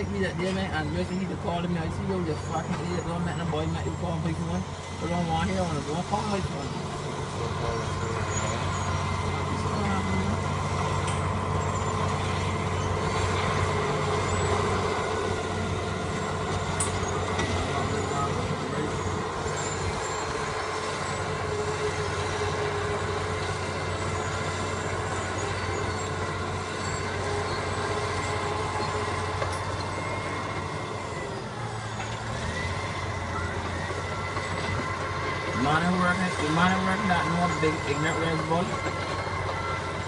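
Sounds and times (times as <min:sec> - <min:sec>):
bulldozer diesel engine running: 0:00.0 - 0:40.0.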